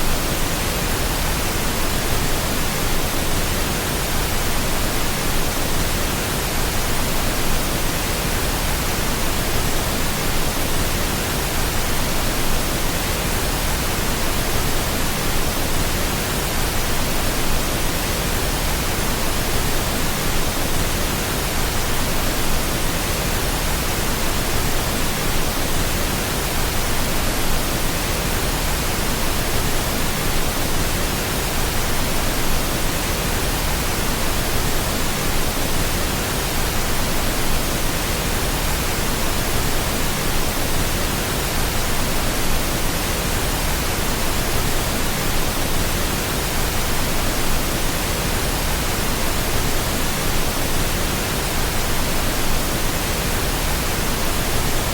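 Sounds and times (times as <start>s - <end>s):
pink noise hiss: 0.0s - 54.9s.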